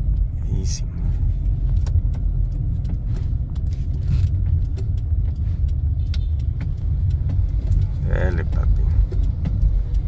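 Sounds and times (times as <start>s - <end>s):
car road rumble: 0.0s - 10.0s
small rattles and clicks: 1.4s - 10.0s.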